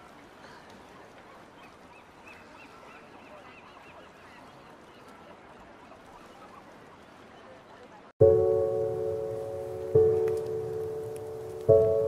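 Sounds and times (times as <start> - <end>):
faint waterside ambience: 0.0 - 12.0.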